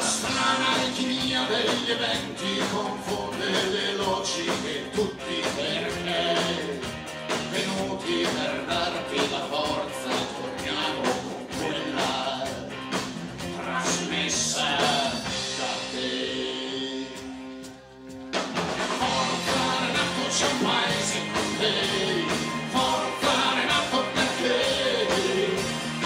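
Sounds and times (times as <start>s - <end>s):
man singing: 0.0s - 12.8s, 13.5s - 17.4s, 19.0s - 26.0s
live rock band playing: 0.0s - 26.0s.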